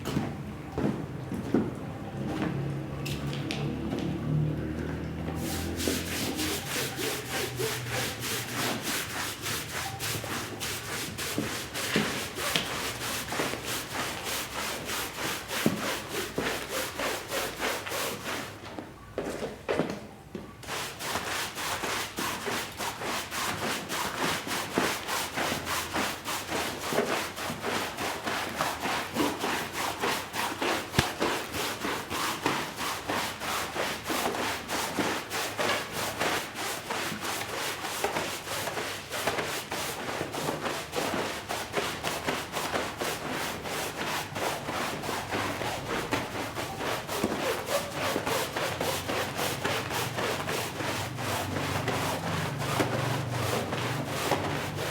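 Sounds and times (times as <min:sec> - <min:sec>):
brush scrubbing wet rug: 0:02.2 - 0:18.6, 0:20.6 - 0:54.9.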